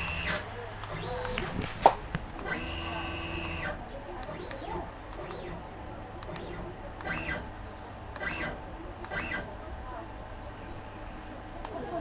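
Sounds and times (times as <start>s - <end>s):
stepper motors whining: 0.0s - 9.7s, 11.5s - 12.0s.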